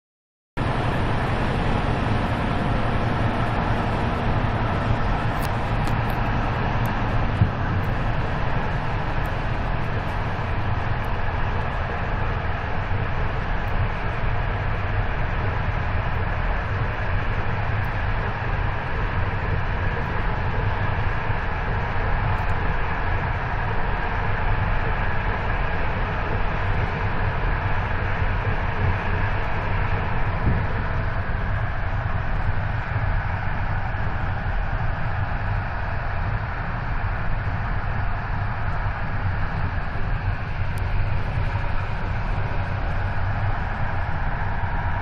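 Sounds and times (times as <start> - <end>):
deep low drone: 0.6 - 45.0
train wheels rumbling on rails: 0.6 - 45.0.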